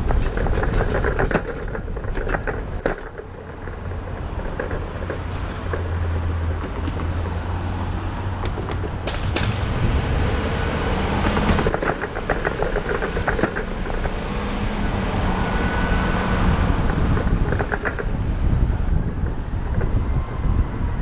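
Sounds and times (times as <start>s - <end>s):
body rattles and knocks: 0.0s - 9.6s, 10.9s - 14.5s, 16.5s - 21.0s
bus engine hum: 0.0s - 21.0s.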